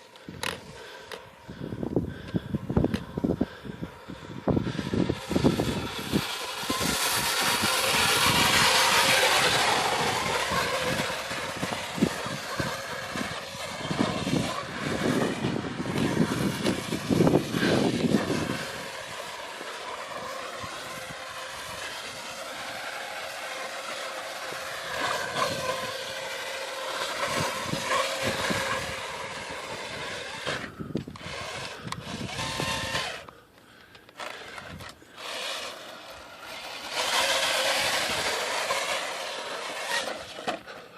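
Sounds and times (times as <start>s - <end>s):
tyres rumbling on sand: 0.0s - 33.3s, 34.2s - 40.9s
electric motor whining: 0.0s - 40.9s.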